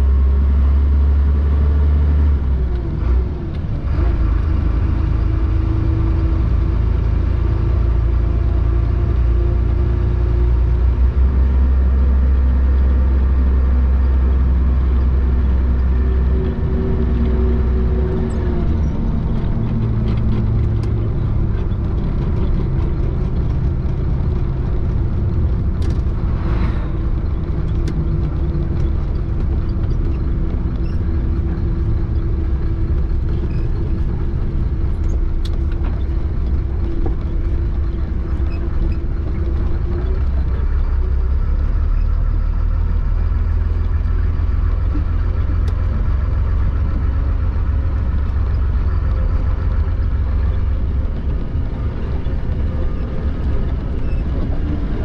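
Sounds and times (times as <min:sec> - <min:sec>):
truck diesel engine rumble: 0:00.0 - 0:55.0.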